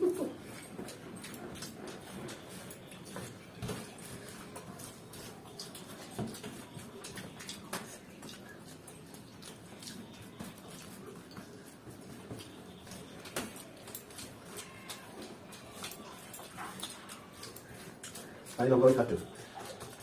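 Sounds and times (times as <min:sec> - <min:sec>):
noodles being chewed: 0:00.0 - 0:20.0
fingers rustling on paper: 0:00.1 - 0:20.0.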